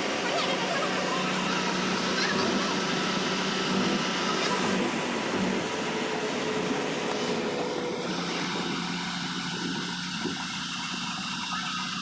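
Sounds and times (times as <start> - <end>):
bus engine and road noise: 0.0 - 12.0
high whine: 0.9 - 12.0.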